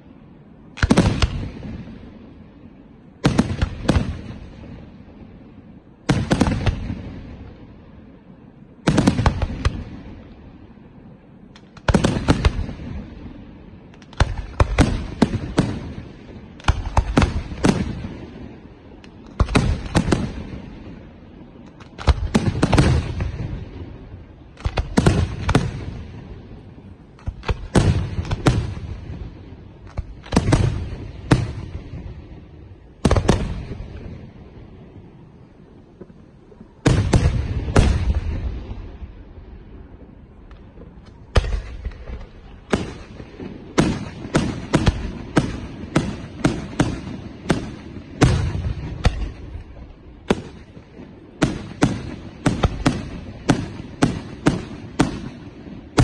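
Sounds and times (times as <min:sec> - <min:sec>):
fireworks bangs with echo: 0:00.0 - 0:56.0.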